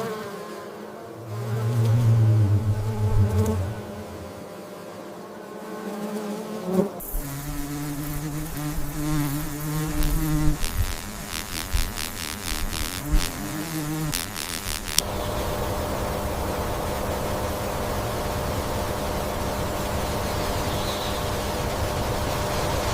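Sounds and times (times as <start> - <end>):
insect wings buzzing: 0.0 - 21.4.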